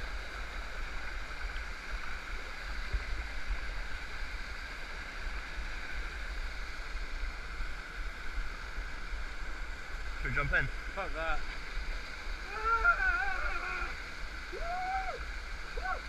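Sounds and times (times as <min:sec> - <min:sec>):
waterfall and river water rushing: 0:00.0 - 0:16.0.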